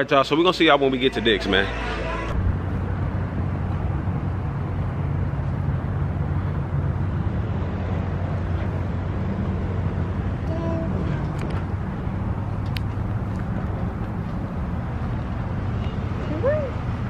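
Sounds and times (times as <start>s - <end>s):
traffic rumble and hum: 0.0s - 17.0s.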